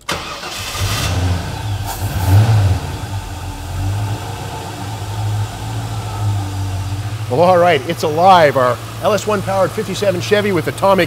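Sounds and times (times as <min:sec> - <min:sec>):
car engine starting and idling: 0:00.0 - 0:11.0.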